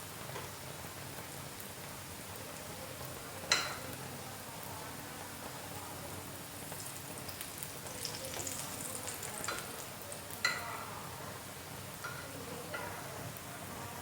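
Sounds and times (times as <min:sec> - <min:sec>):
flatbread sizzling in a pan: 0:00.0 - 0:14.0.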